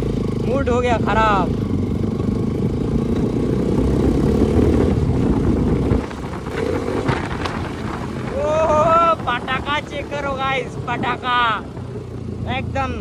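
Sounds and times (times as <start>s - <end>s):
motorcycle engine running loud: 0.0s - 13.0s
sharp exhaust pops: 0.0s - 13.0s.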